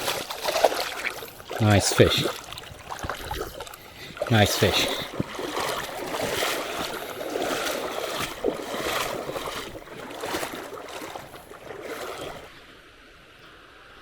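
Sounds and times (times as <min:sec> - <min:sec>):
creek water splashing: 0:00.0 - 0:13.1.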